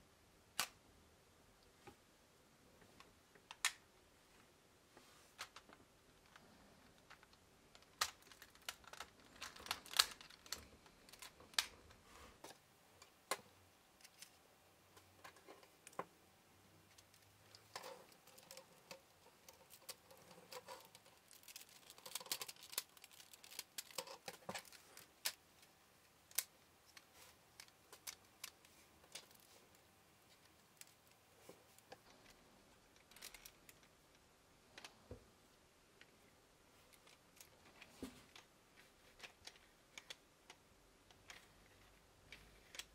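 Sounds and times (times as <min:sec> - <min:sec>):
plastic parts clicking and rattling: 0:05.4 - 0:16.1, 0:16.8 - 0:35.2, 0:36.8 - 0:42.9.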